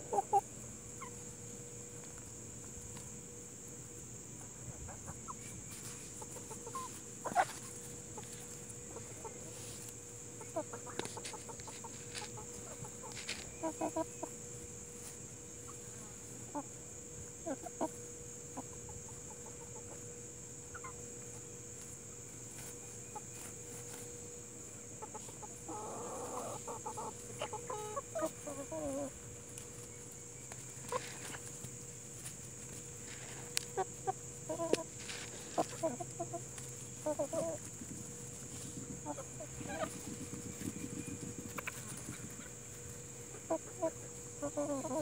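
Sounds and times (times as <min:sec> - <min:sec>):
hens clucking: 0:00.0 - 0:01.4, 0:04.3 - 0:45.0.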